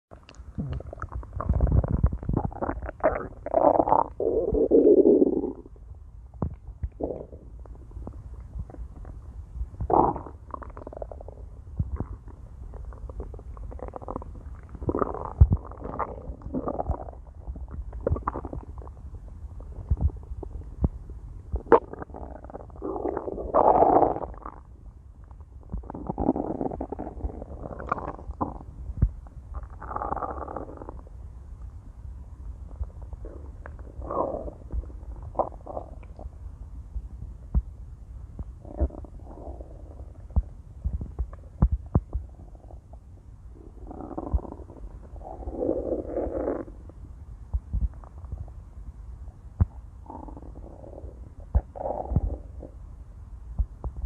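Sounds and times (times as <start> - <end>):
stomach growling: 0.1 - 31.2, 32.7 - 36.4, 38.4 - 48.6, 49.6 - 52.8.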